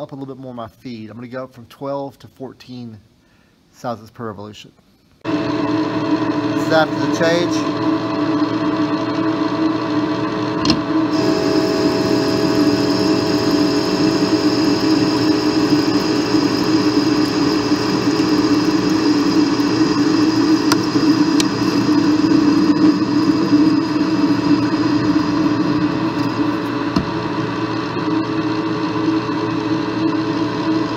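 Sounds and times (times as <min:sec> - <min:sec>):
metal lathe cutting: 0:05.3 - 0:30.9.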